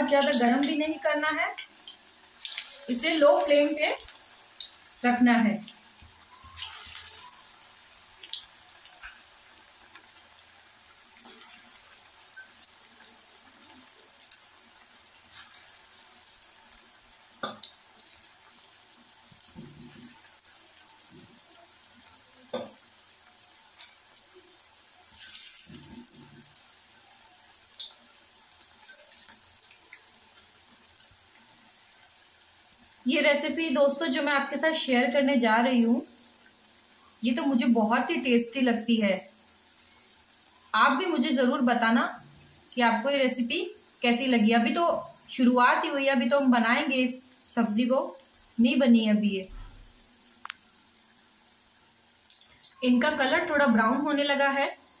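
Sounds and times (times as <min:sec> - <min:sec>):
food deep-frying in oil: 0:00.0 - 0:55.0.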